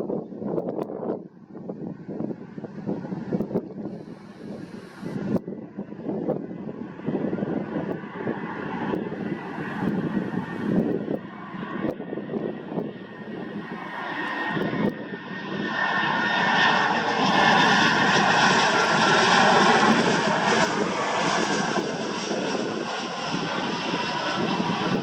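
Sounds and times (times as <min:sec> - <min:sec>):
jet engines roaring: 0:01.8 - 0:25.0.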